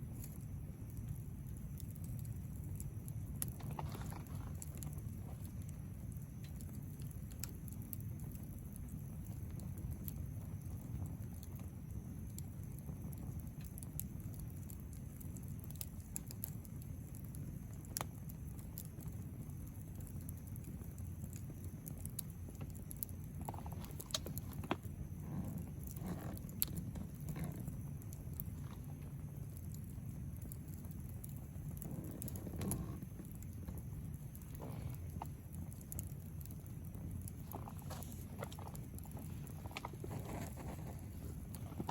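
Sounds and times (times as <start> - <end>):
campfire crackling and popping: 0.0 - 41.9
low rumble of flame: 0.0 - 41.9.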